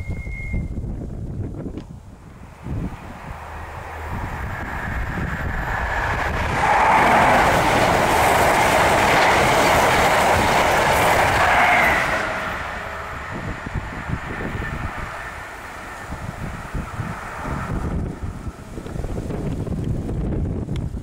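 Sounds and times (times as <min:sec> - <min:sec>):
high-speed train passing: 0:00.0 - 0:21.0.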